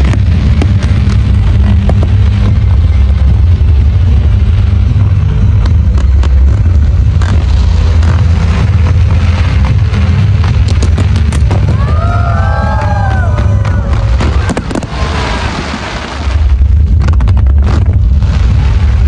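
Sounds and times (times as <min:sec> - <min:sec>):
deep rumble of fireworks: 0:00.0 - 0:19.0
fireworks crackling and popping: 0:00.0 - 0:19.0.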